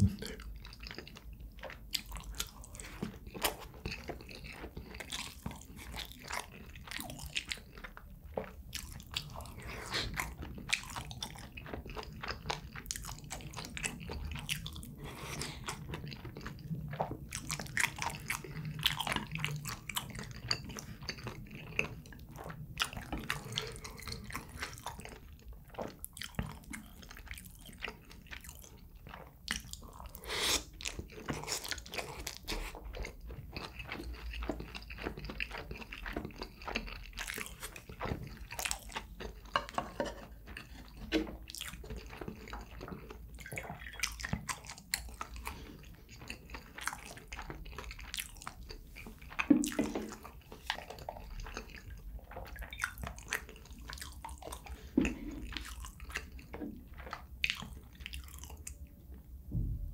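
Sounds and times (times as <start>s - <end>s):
person chewing food: 0.0s - 59.5s.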